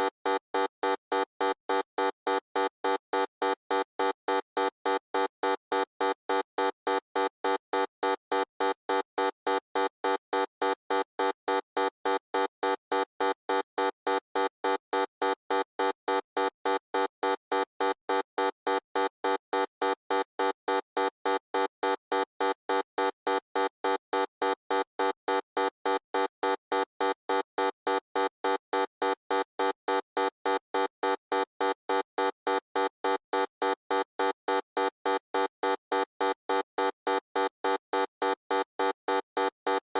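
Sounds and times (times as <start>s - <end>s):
electronic buzzer beeping: 0.0s - 39.8s.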